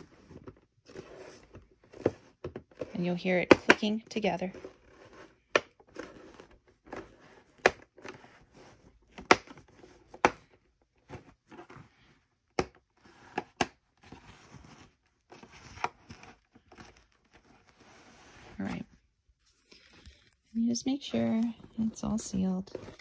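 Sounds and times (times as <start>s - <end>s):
soft rustling of plastic handling: 0.0s - 23.0s.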